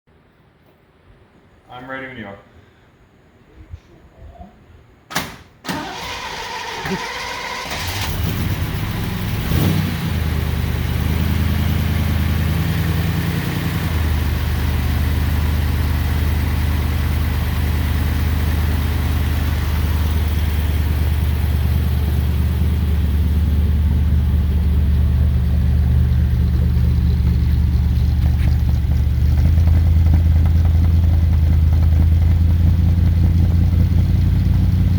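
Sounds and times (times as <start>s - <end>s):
car engine idling: 5.8s - 34.9s.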